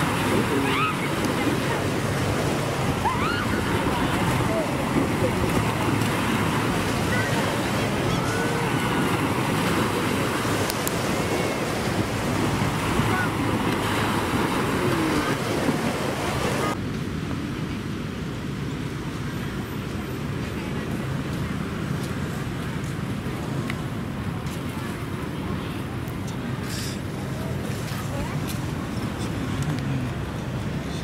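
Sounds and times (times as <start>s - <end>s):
surf: 0.0s - 31.0s
wind: 0.0s - 31.0s.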